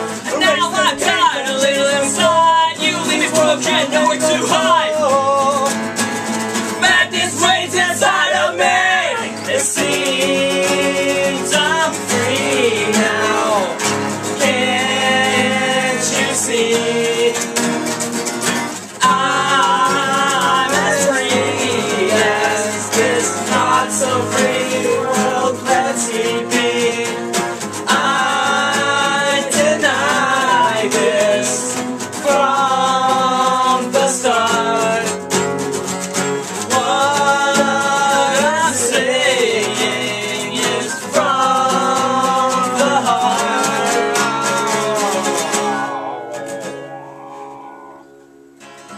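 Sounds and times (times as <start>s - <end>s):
person singing: 0.0s - 5.8s, 6.8s - 17.9s, 18.9s - 35.3s, 36.6s - 48.1s
acoustic guitars strummed: 0.0s - 48.9s.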